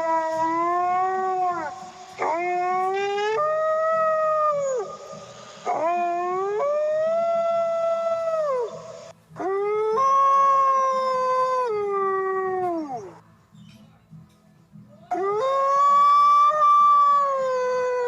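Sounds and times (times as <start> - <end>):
wolf howling: 0.0 - 13.2, 15.1 - 18.0.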